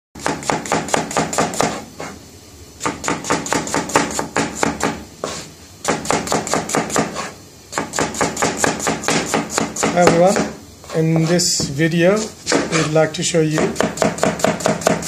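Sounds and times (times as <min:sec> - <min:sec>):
knife chopping on cutting board: 0:00.2 - 0:02.2, 0:02.8 - 0:15.0.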